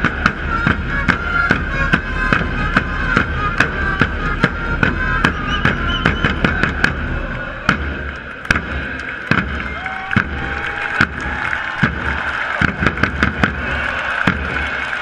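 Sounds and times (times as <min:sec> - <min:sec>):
drums struck with sticks: 0:00.0 - 0:14.7
stadium crowd noise: 0:00.0 - 0:15.0.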